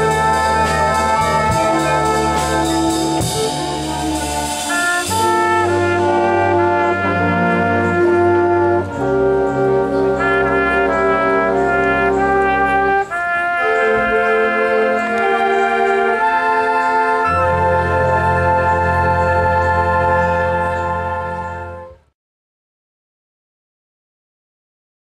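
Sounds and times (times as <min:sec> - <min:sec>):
concert band playing chords: 0:00.0 - 0:22.0
low tuba bass line: 0:00.0 - 0:22.1.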